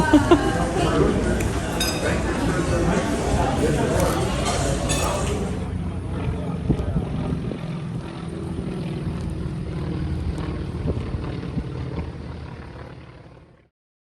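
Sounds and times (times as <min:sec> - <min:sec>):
low engine drone: 0:00.0 - 0:13.7.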